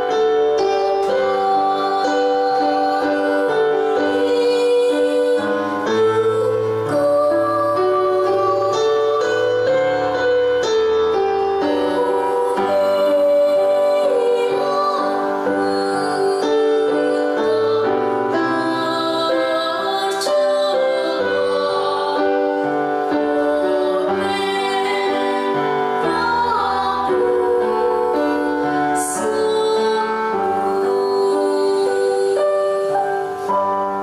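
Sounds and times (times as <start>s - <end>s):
girl singing: 0.0s - 33.3s
recorded instrumental accompaniment: 0.0s - 34.0s.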